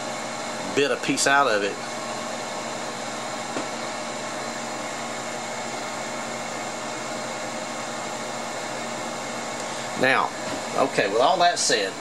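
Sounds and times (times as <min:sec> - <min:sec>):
electrical hum with rushing hiss: 0:00.0 - 0:12.0.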